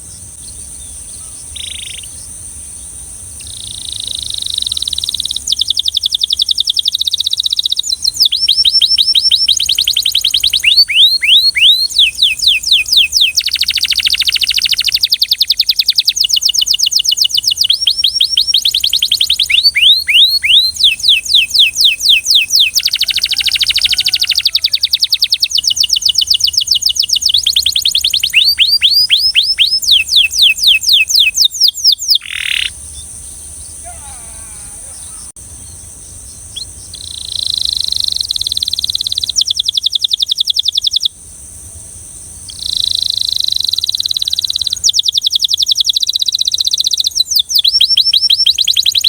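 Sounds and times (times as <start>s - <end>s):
canary singing: 0.0s - 2.3s, 3.4s - 41.1s, 42.5s - 49.0s
steady high hiss: 0.0s - 28.4s, 32.1s - 45.7s.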